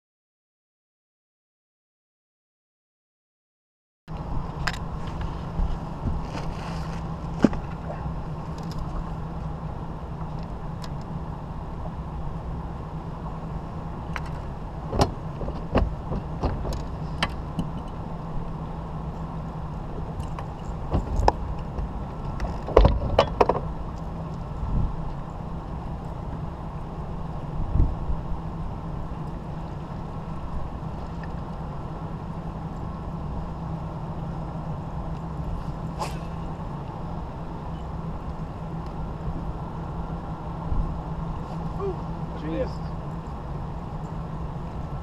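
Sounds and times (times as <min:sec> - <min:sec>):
boat engine low rumble: 0:04.1 - 0:45.0.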